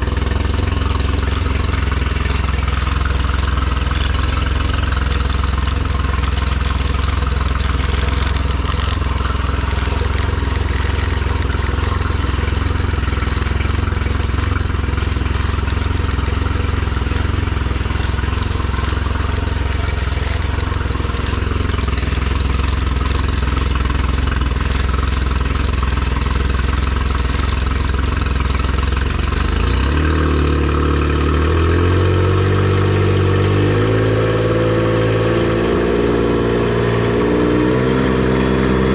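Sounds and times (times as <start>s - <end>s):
outboard motor idling and revving: 0.0s - 38.9s.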